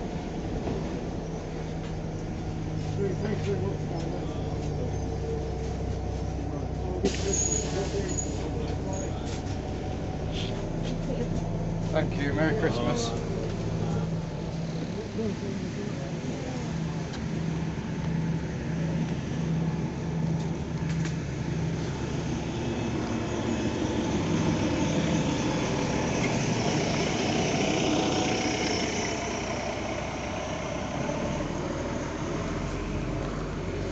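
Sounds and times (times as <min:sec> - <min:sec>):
bus engine running: 0:00.0 - 0:33.9
low pulsing tone: 0:00.0 - 0:33.9
road noise: 0:00.0 - 0:33.9.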